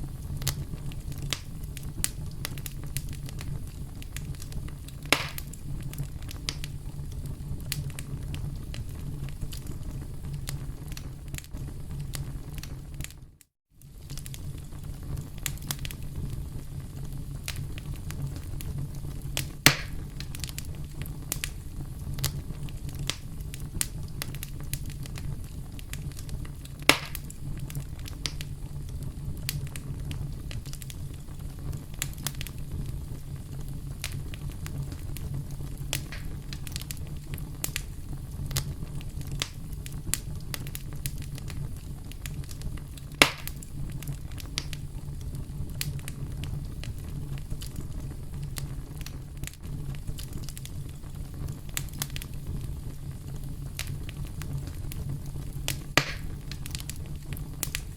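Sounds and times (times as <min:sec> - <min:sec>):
low fire rumble: 0:00.0 - 0:57.9
sharp fire pops: 0:00.0 - 0:57.9
wood fire crackling: 0:00.0 - 0:57.9.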